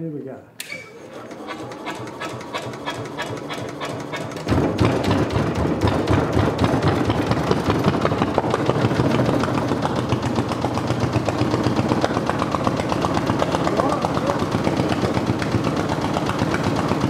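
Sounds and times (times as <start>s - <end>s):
diesel engine cranking: 0.6s - 17.0s
diesel engine running: 1.1s - 17.0s.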